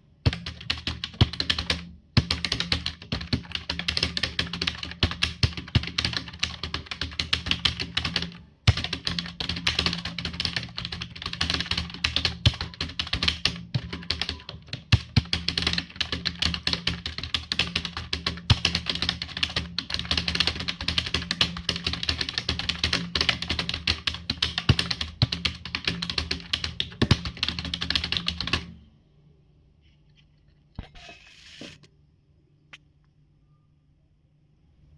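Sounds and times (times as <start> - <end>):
fast typing on keyboard: 0.2 - 28.8.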